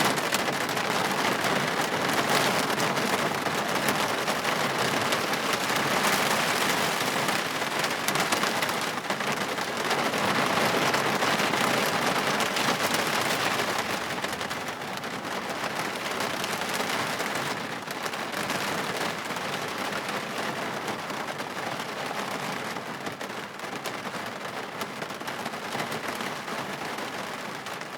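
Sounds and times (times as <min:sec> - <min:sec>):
heavy rain on a windshield: 0:00.0 - 0:27.9.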